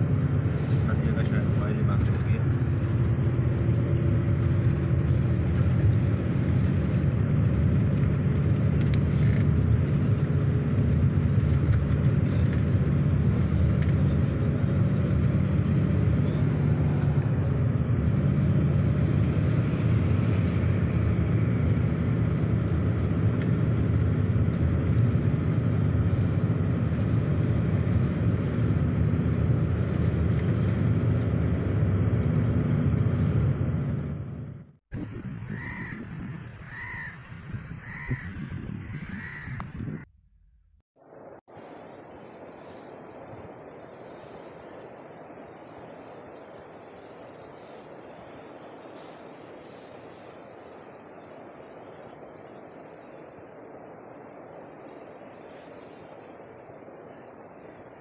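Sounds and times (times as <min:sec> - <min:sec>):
tyre noise on road: 0:00.0 - 0:58.0
vehicle engine hum: 0:00.0 - 0:58.0.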